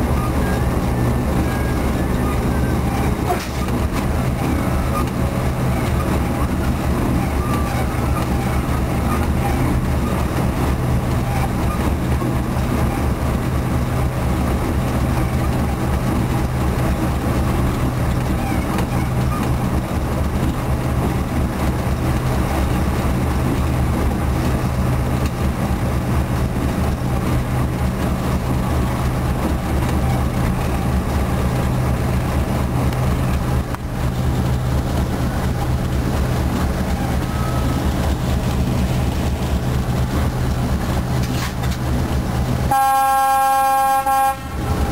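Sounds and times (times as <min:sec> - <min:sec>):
diesel engine droning: 0:00.0 - 0:44.9
train running noise: 0:00.0 - 0:44.9.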